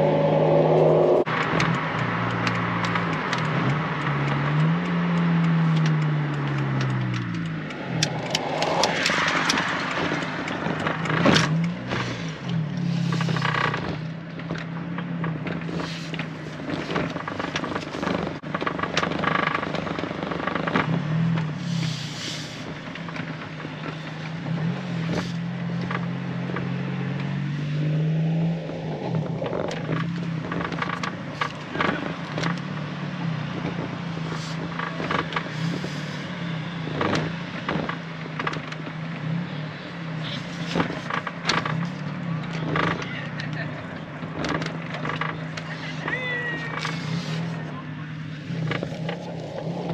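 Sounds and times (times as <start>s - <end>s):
car engine droning: 0.0s - 49.9s.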